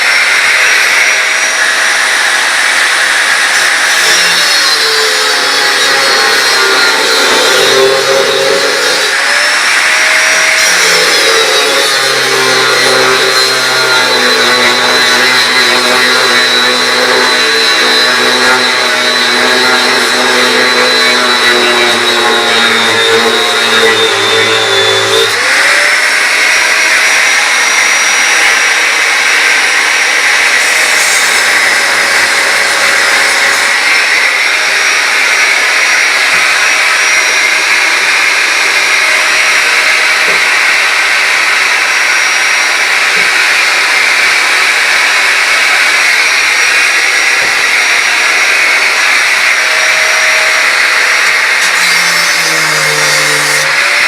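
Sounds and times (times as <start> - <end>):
angle grinder cutting steel: 0.0 - 54.0.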